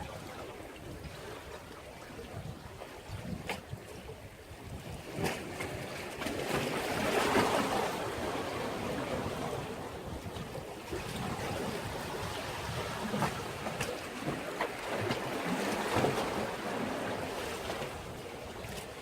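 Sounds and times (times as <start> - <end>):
sea waves washing against breakwater: 0.0 - 19.0
wind on microphone: 0.0 - 19.0.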